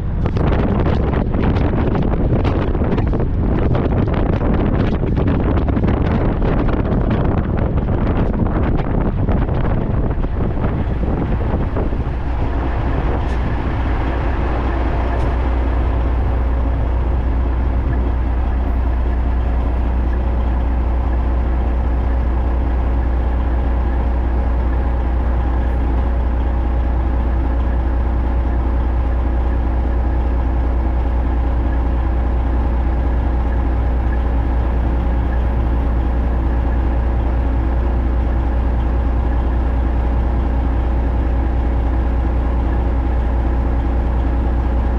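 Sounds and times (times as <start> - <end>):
heavy truck engine droning: 0.0 - 44.9.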